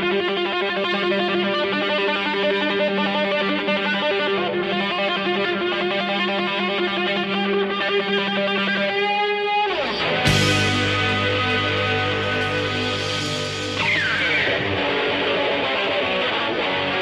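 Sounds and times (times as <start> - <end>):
distorted electric guitar rock music: 0.0 - 17.0.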